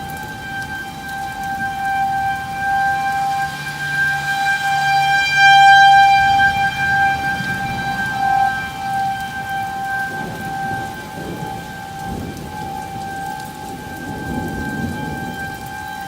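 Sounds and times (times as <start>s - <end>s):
rain falling: 0.0s - 16.0s
thunder rumbling: 0.0s - 16.0s
warning siren steady tone: 0.0s - 16.0s.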